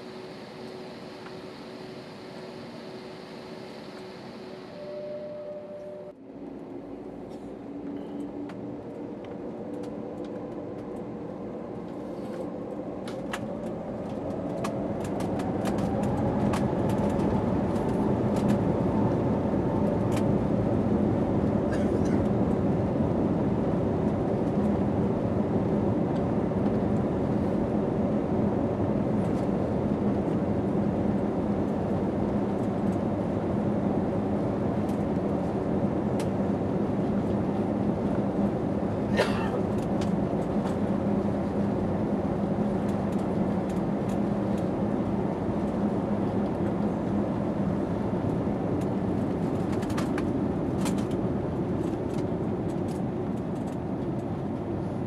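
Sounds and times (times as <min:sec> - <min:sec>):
airliner cabin engine hum: 0:00.0 - 0:55.0.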